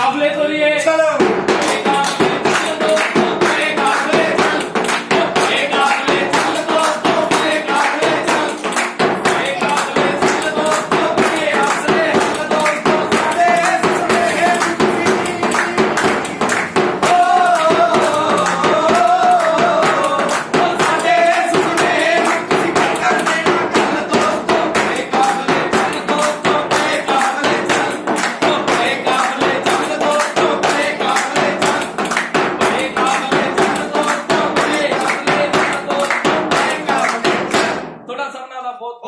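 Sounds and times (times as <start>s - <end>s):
group singing and chanting: 0.0s - 38.0s
hand claps: 0.8s - 37.9s
steel plate beaten like drum: 1.2s - 37.9s.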